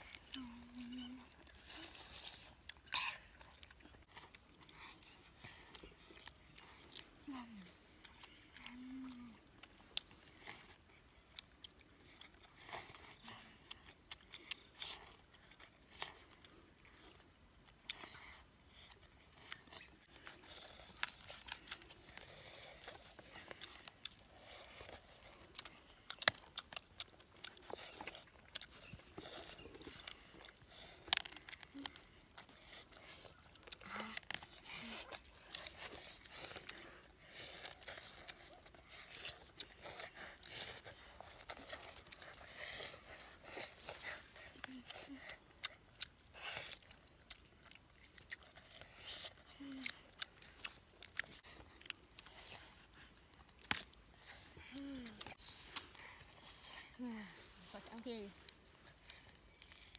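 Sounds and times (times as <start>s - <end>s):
crunching and chewing meat: 0.0s - 59.9s.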